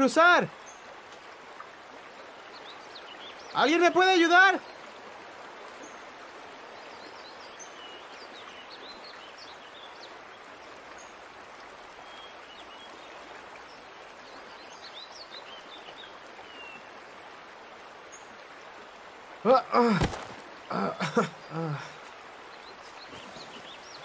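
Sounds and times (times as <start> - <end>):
small birds chirping: 0.0 - 17.1, 17.8 - 24.0
water rushing over rocks: 0.0 - 24.0.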